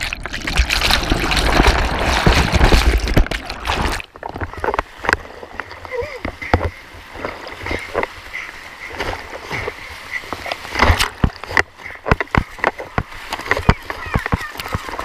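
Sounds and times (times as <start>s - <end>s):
swimmer splashing: 0.0s - 15.0s.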